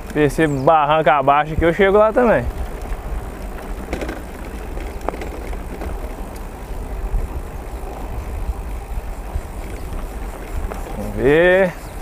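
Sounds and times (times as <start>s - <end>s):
bike tyres rolling on dirt: 0.0s - 12.0s
sharp clicks from bike: 0.0s - 12.0s
wind rumbling on microphone: 0.0s - 12.0s.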